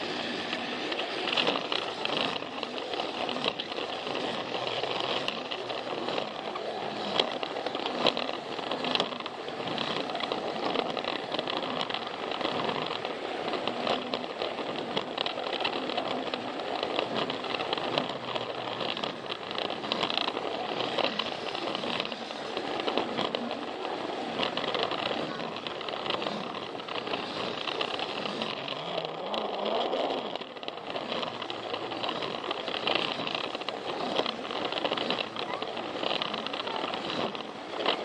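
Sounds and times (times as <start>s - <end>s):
toy train motor whirring: 0.0s - 38.0s
wheels clicking on track: 0.0s - 38.0s.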